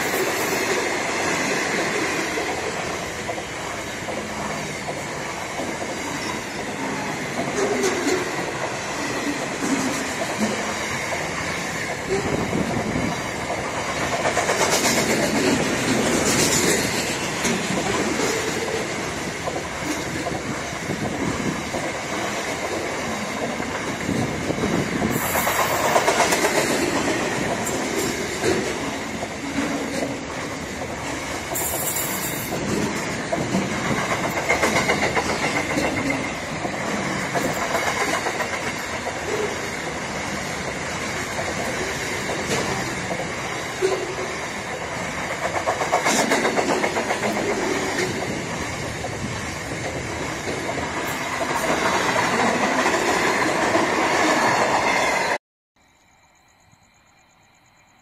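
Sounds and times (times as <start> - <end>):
freight train wheels on rails: 0.0 - 55.4.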